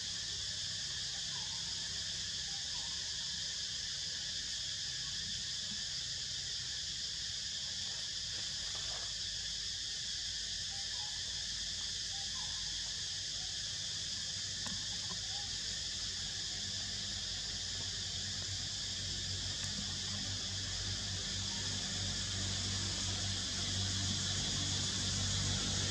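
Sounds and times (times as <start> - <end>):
high-pitched insect drone: 0.0 - 25.9.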